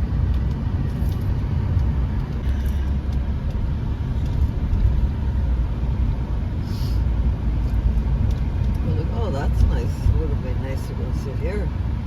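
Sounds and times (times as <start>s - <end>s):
engine and tyre rumble: 0.0s - 12.0s
wind and road hiss: 0.0s - 12.0s.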